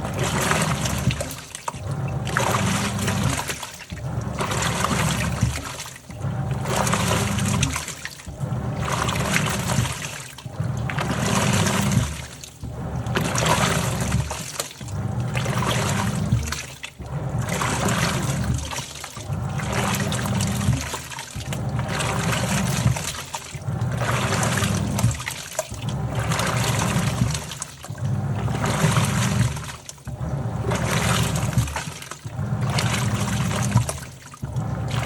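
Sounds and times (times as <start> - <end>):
washing machine motor hum: 0.0 - 35.0
water sloshing and churning: 0.0 - 35.0.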